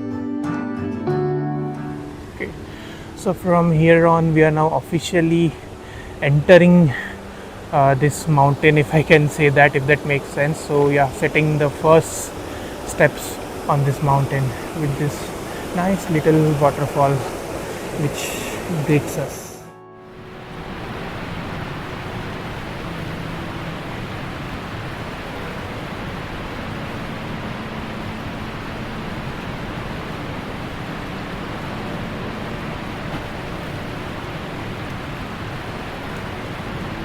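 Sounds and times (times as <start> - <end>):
waterfall rushing: 1.6 - 37.0.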